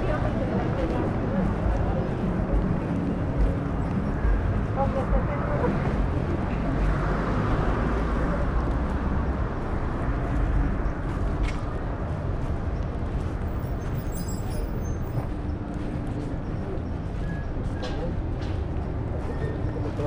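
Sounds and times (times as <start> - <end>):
cars passing with deep rumble: 0.0 - 20.0.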